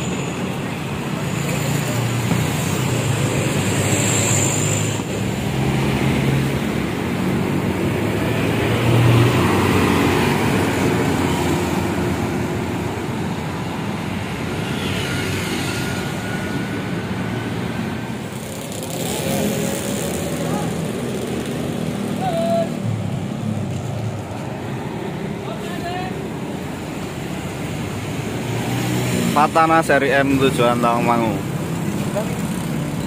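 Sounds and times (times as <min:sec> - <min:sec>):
motorbikes passing: 0:00.0 - 0:33.0
road traffic: 0:00.0 - 0:33.0.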